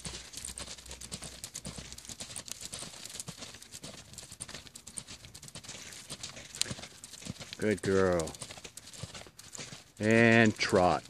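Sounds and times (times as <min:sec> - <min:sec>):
horse hoofbeats on soft dirt: 0:00.0 - 0:11.0.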